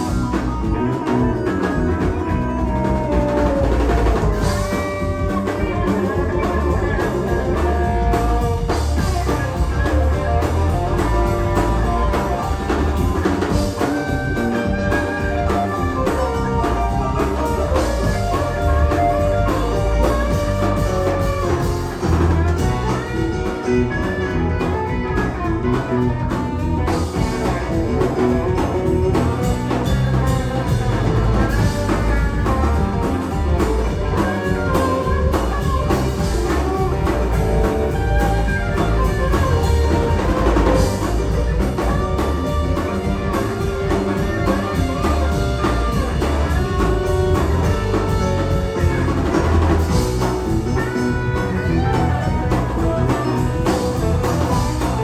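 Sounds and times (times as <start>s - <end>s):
bass guitar: 0.0s - 55.0s
drum kit: 0.0s - 55.0s
electric guitar: 0.0s - 55.0s
keyboards: 0.0s - 55.0s.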